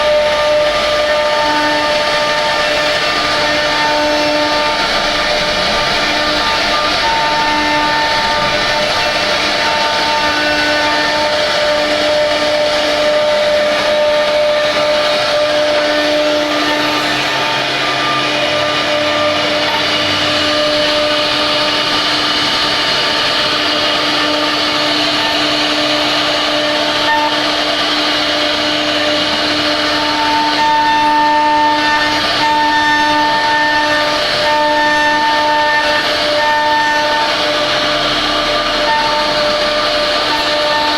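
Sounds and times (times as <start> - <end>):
router spindle high whine: 0.0 - 40.9
wood cutting noise: 0.0 - 40.9.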